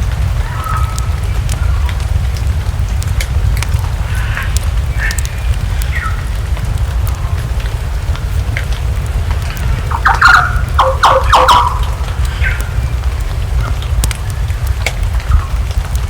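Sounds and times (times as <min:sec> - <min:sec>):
burning wood crackling: 0:00.0 - 0:16.0
low rumble: 0:00.0 - 0:16.0.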